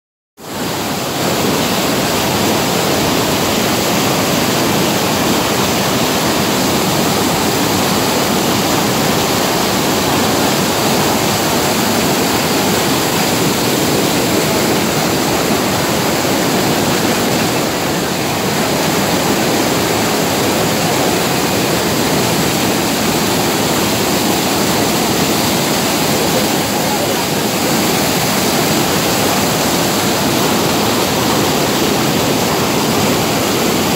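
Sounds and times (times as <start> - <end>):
whitewater rushing over boulders: 0.4 - 33.9.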